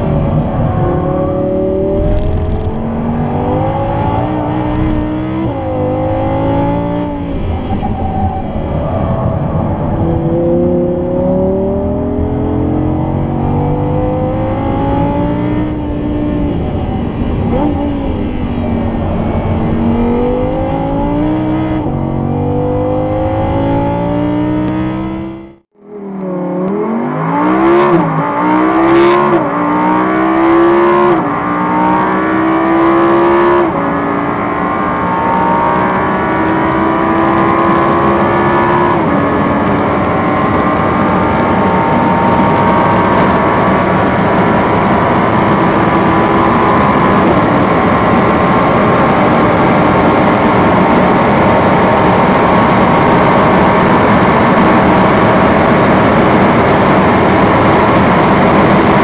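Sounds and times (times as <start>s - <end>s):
car engine revving through gears: 0.0s - 59.0s.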